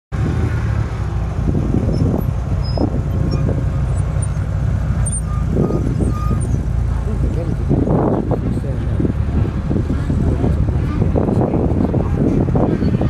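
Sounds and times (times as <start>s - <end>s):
car engine low rumble: 0.1s - 13.0s.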